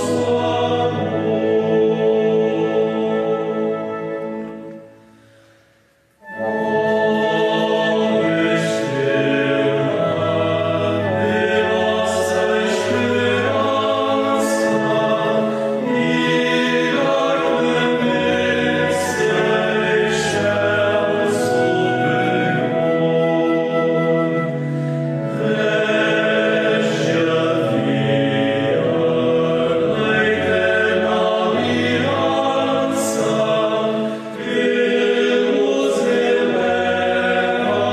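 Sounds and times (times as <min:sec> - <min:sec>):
male choir singing a hymn: 0:00.0 - 0:04.5, 0:06.3 - 0:37.9
pipe organ: 0:00.0 - 0:05.5, 0:06.1 - 0:37.9.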